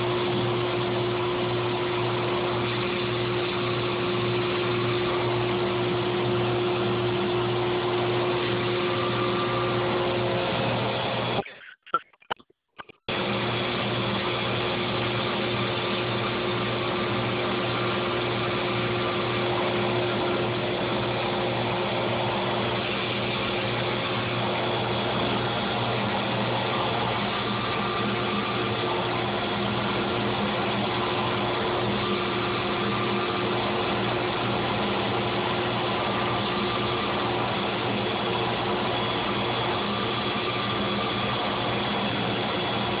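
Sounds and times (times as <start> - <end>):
machine drone with high whine: 0.0 - 11.5, 13.1 - 43.0.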